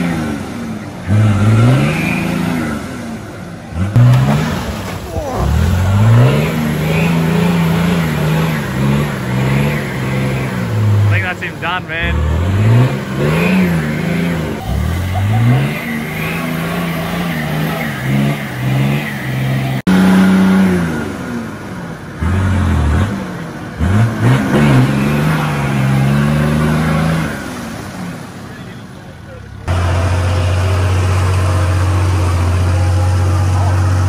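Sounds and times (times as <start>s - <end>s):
car engine revving under load: 0.0s - 34.0s.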